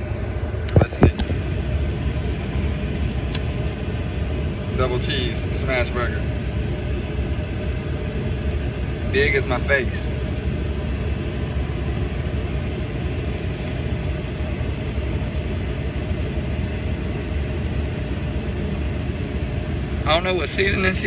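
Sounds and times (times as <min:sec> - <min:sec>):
car engine rumble from inside: 0:00.0 - 0:21.0.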